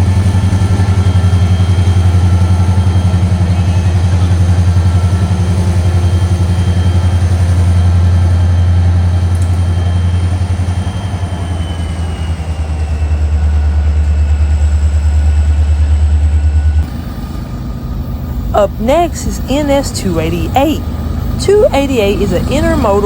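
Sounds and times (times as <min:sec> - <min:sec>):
diesel locomotive engine throbbing: 0:00.0 - 0:23.0.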